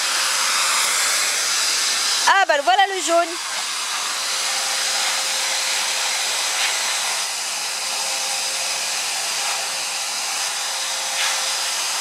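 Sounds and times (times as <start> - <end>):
water hissing from a hose: 0.0 - 12.0.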